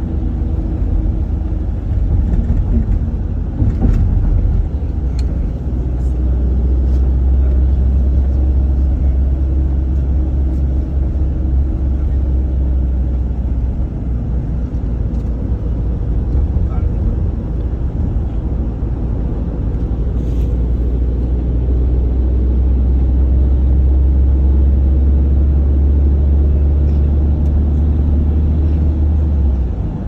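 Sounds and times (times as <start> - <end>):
vehicle rumble from inside cabin: 0.0 - 30.0.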